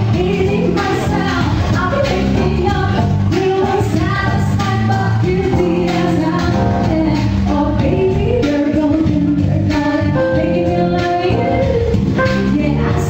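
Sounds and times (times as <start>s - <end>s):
band playing pop song: 0.0s - 13.0s.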